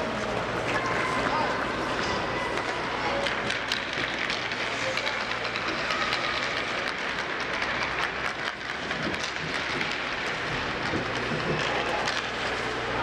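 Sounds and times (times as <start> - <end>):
hockey sticks and skates clacking: 0.0 - 13.0.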